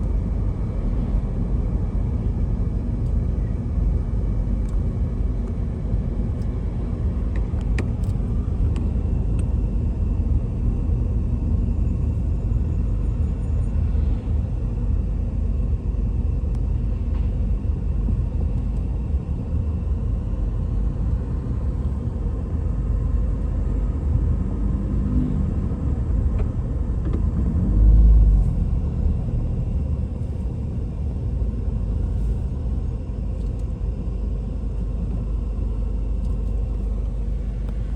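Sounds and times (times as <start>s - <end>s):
steady low rumble: 0.0s - 37.9s.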